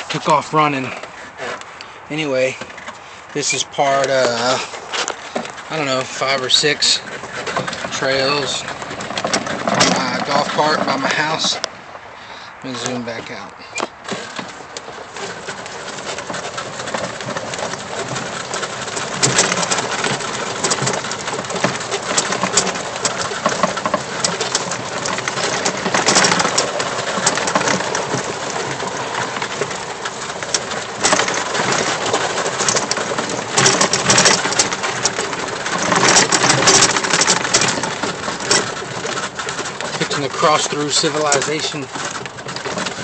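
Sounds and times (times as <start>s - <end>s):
wind and tyre noise: 0.0s - 43.0s.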